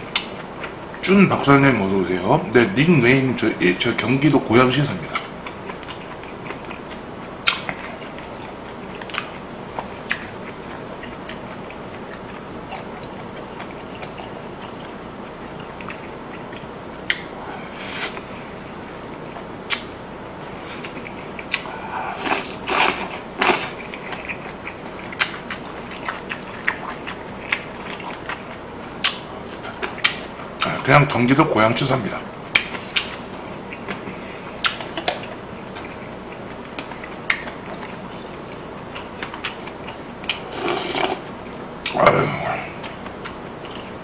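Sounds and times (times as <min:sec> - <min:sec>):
chewing food: 0:04.8 - 0:17.4, 0:18.2 - 0:30.9, 0:32.5 - 0:44.0.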